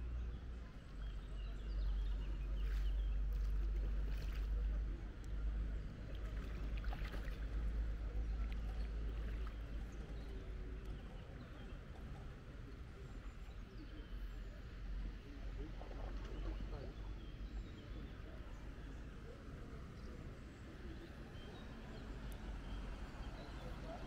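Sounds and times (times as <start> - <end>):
paddle splashes and drips: 2.0 - 13.4, 15.4 - 24.0.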